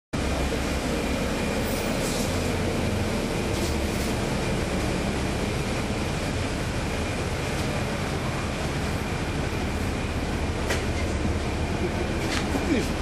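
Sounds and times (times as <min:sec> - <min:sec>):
bus diesel engine humming: 0:00.2 - 0:13.0.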